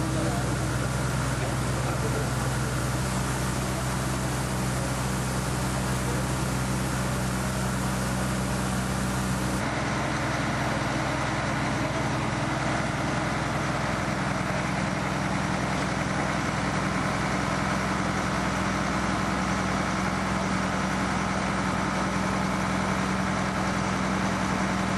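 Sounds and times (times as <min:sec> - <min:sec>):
fire engine idling: 0:00.0 - 0:24.9.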